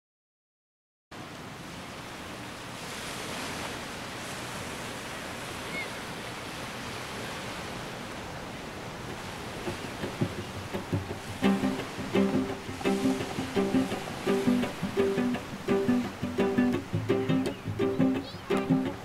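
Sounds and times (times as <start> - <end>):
small waves lapping on beach: 1.2 - 19.0.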